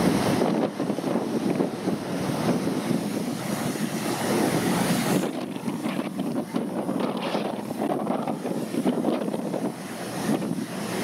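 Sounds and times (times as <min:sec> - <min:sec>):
waves washing against hull: 0:00.0 - 0:11.0
wind buffeting microphone: 0:00.0 - 0:11.0.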